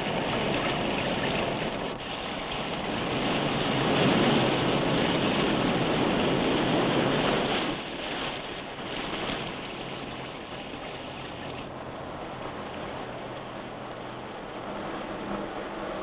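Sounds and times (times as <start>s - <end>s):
rain: 0.0s - 16.0s
surf: 0.0s - 16.0s.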